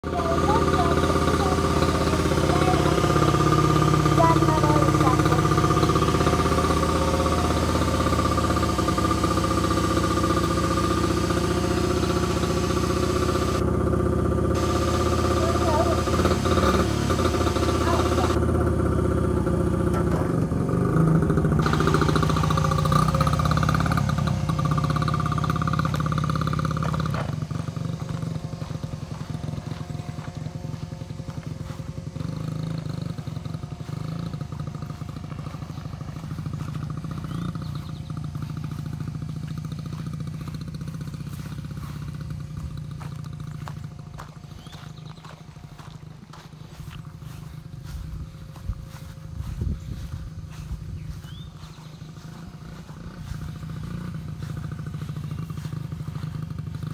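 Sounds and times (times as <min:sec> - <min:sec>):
mini dirt bike engine running: 0:00.0 - 0:56.9.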